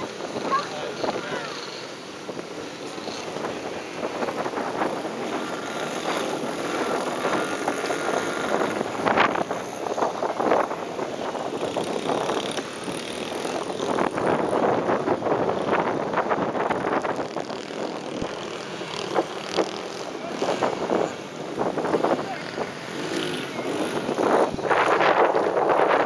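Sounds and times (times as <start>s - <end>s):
motorbike engines revving: 0.0s - 26.0s
wind buffeting microphone: 0.0s - 26.0s.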